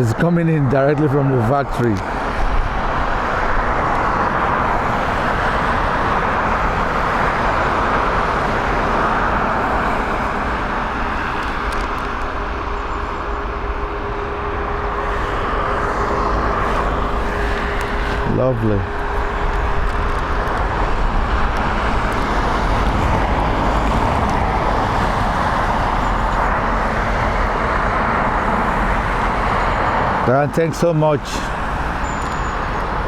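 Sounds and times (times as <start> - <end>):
jet engines rushing: 0.0 - 33.0.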